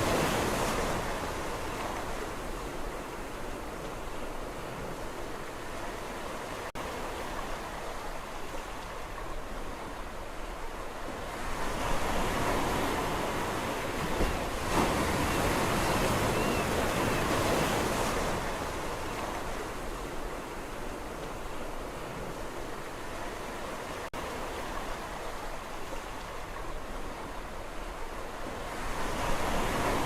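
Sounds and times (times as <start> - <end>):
sea waves washing onto shore: 0.0 - 30.0.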